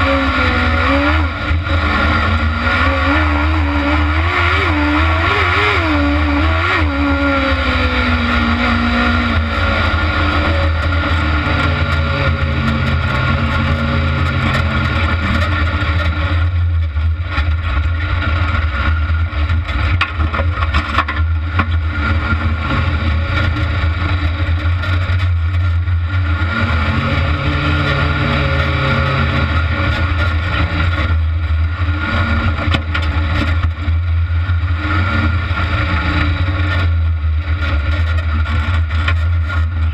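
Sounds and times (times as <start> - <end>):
buggy engine revving: 0.0 - 39.9.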